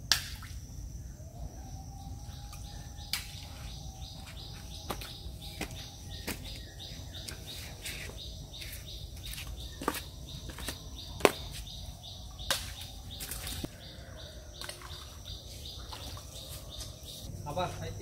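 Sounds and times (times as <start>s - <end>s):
insects humming: 0.0s - 18.0s
birds chirping: 1.1s - 18.0s.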